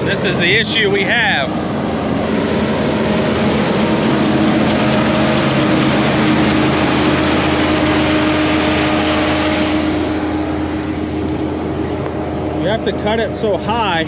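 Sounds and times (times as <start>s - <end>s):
combine harvester running: 0.0s - 14.0s.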